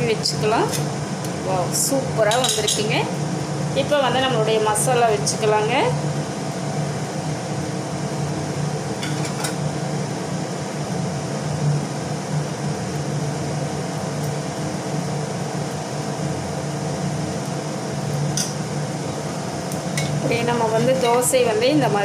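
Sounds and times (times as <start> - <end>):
mechanical motor hum: 0.0 - 22.0.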